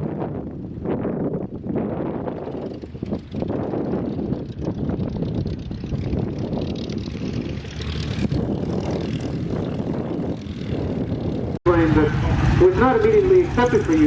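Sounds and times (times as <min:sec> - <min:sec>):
propeller plane flying overhead: 0:00.0 - 0:14.0.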